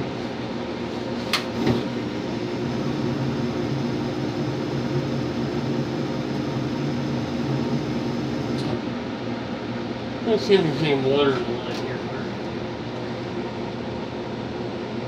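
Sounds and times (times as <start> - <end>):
furnace fan motor humming: 0.0 - 15.0.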